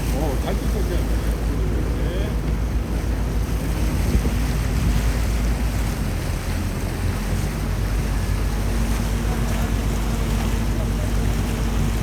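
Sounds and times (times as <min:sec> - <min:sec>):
boat motor running: 0:00.0 - 0:12.0
water rushing past hull: 0:00.0 - 0:12.0
wind buffeting microphone: 0:00.0 - 0:12.0.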